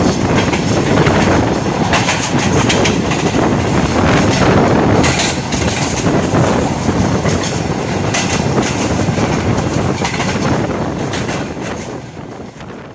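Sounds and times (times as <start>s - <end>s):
steady rushing noise: 0.0s - 12.9s
train wheels clattering over rail joints: 0.0s - 12.9s.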